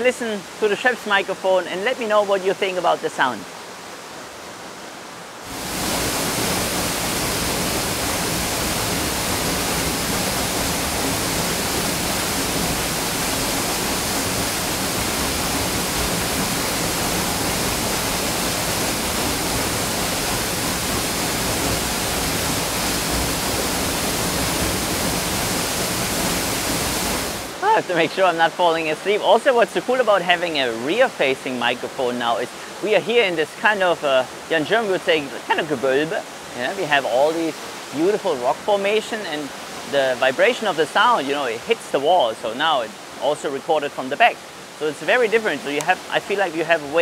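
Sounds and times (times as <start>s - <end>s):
waterfall pouring into pool: 5.5s - 47.0s.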